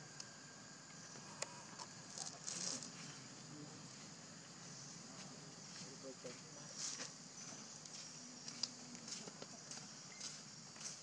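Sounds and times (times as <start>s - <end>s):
high drone of forest insects: 0.0s - 11.0s.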